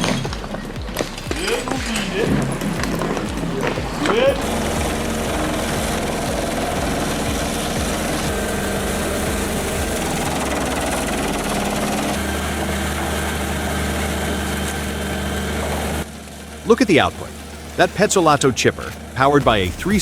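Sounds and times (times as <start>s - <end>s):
heavy machine engine droning: 0.0s - 20.0s.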